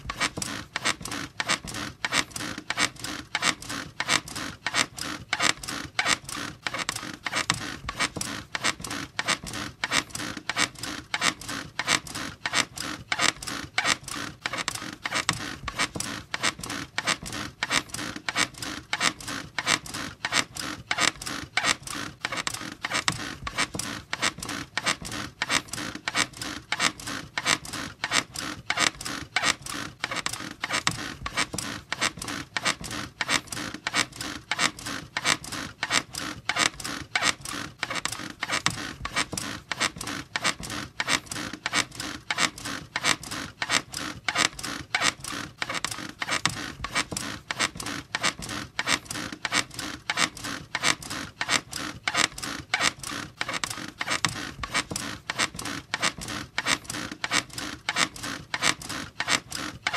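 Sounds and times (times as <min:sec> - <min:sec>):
bed squeaking rhythmically: 0:00.0 - 0:59.9.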